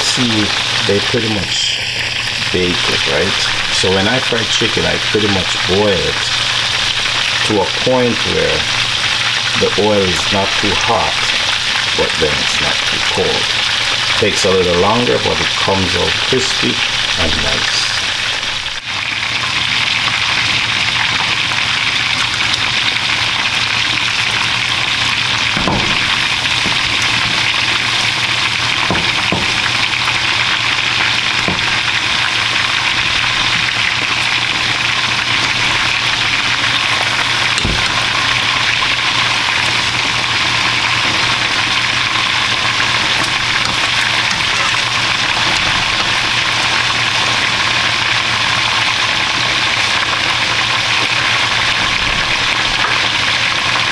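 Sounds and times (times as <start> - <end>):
chicken deep-frying in oil: 0.0 - 53.9.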